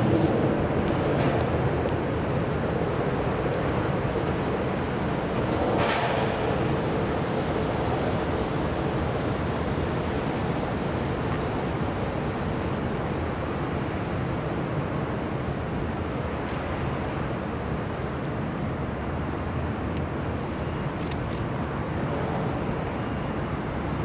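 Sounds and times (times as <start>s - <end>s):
ship engine rumble and wash: 0.0s - 24.0s.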